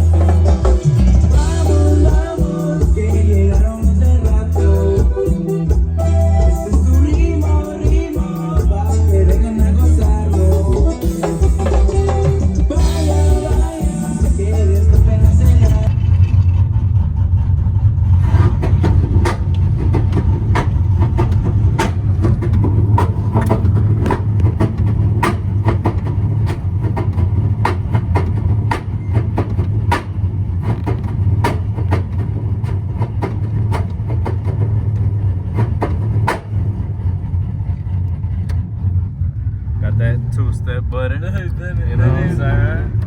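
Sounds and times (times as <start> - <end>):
truck engine rumbling: 0.0 - 43.0.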